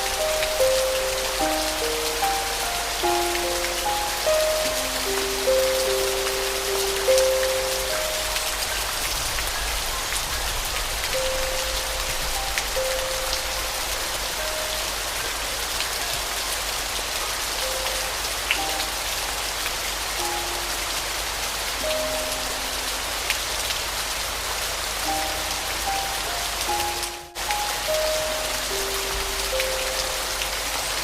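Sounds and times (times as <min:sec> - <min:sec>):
raindrops ticking: 0:00.0 - 0:31.0
slow soft piano melody: 0:00.0 - 0:31.0
steady rain falling: 0:00.0 - 0:31.0.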